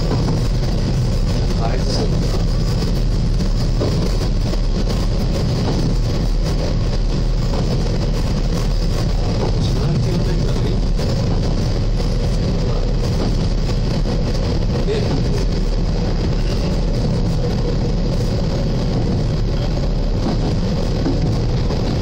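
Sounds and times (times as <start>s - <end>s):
railcar engine and wheel rumble: 0.0s - 22.0s.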